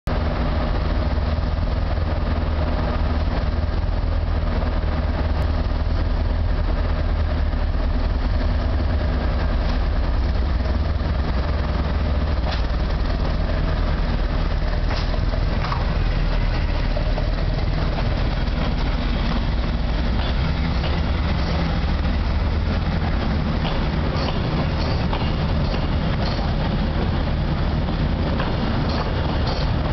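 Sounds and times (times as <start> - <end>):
diesel train engine droning: 0.1 - 29.9.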